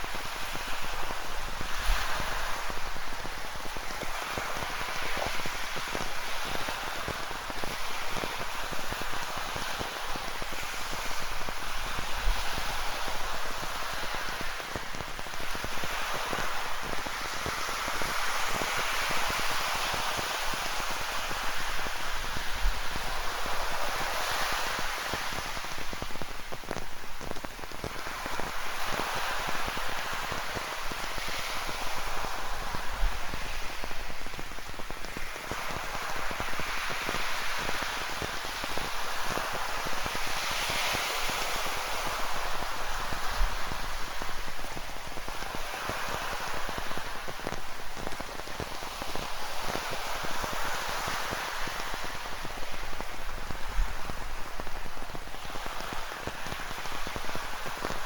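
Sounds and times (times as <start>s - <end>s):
ocean surf: 0.0s - 58.0s
steady rain with ticking drops: 0.0s - 58.0s.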